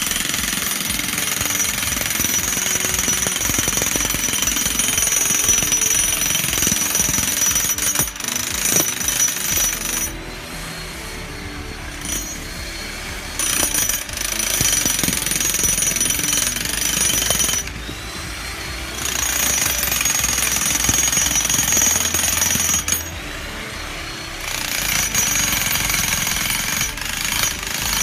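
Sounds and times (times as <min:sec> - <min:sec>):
electric demolition hammer rattling: 0:00.0 - 0:28.0.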